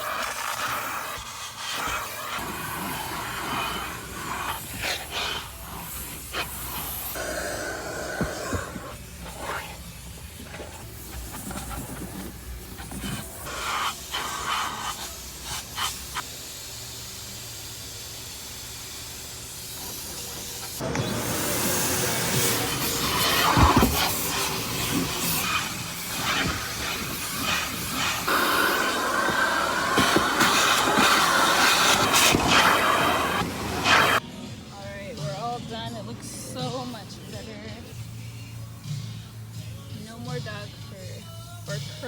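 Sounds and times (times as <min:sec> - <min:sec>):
vacuum hose suction hiss: 0:00.0 - 0:34.2.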